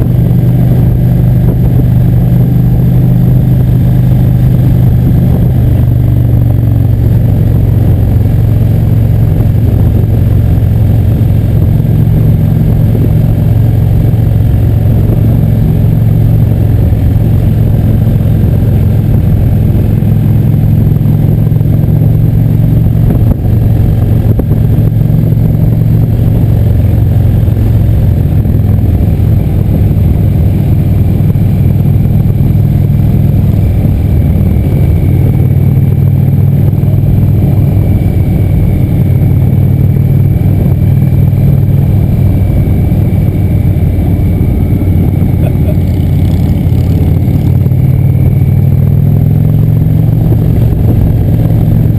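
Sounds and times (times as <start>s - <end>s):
motorcycle engine running steadily: 0.0s - 51.9s.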